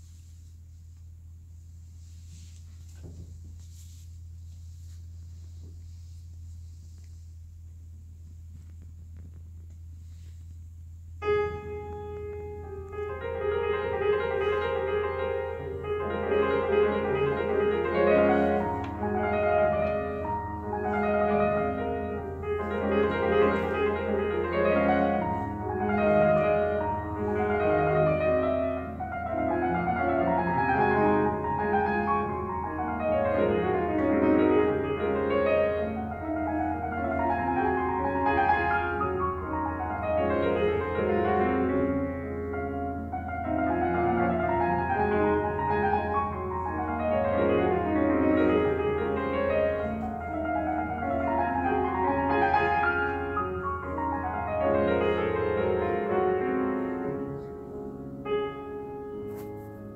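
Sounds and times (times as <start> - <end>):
solo piano piece: 0.0 - 59.9
steady low hum: 0.0 - 59.9.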